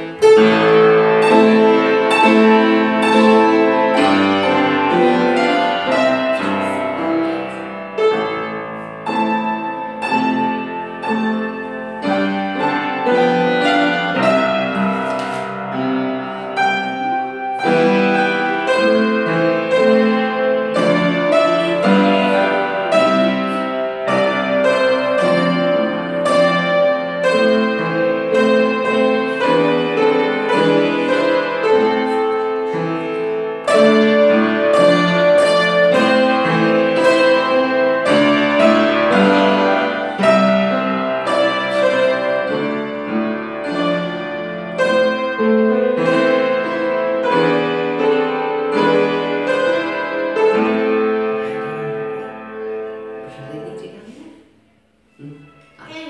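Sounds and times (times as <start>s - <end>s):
piano piece: 0.0s - 56.0s.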